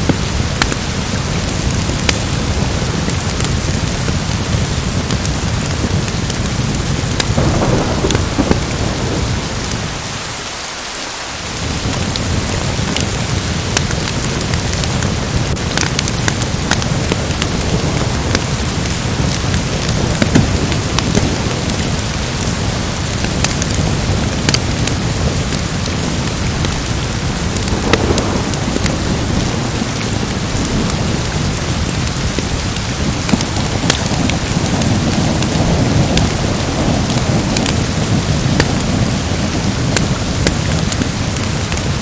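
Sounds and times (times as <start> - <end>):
thunder rumble: 0.0 - 10.6, 11.5 - 42.0
sharp crackles and pops: 0.0 - 10.8, 11.5 - 42.0
heavy rain: 0.0 - 42.0.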